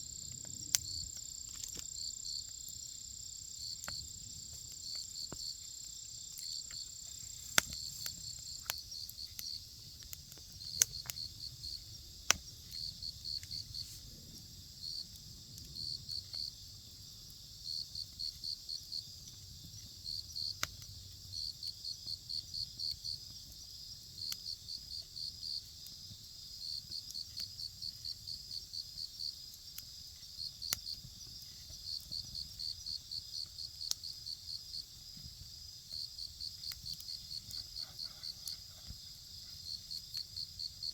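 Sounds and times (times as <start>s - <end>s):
campfire crackling: 0.0s - 40.9s
insects chirping: 0.0s - 40.9s.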